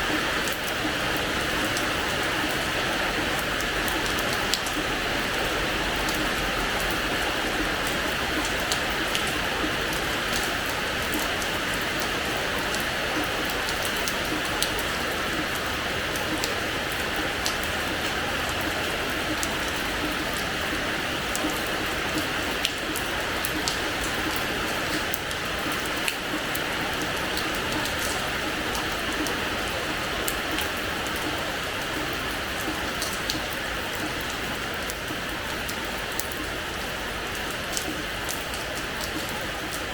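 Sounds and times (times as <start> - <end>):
rain on a hard floor: 0.0 - 39.9.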